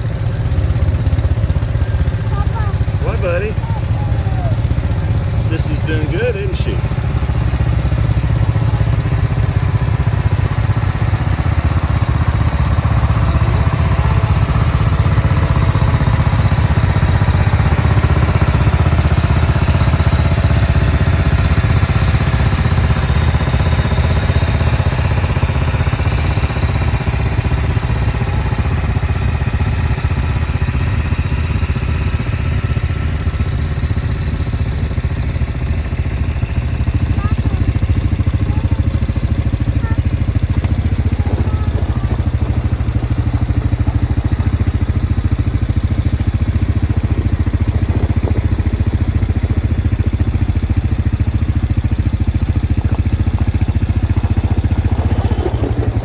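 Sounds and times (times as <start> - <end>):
lawn tractor engine running: 0.0 - 56.0.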